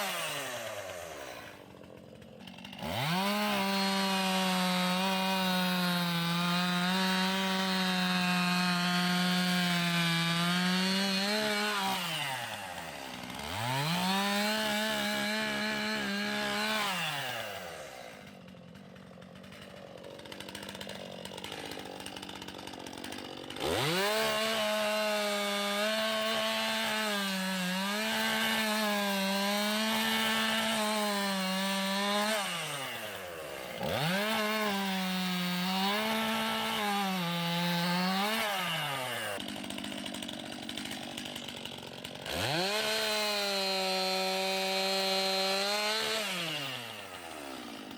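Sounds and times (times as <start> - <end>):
chainsaw cutting logs: 0.0 - 47.9.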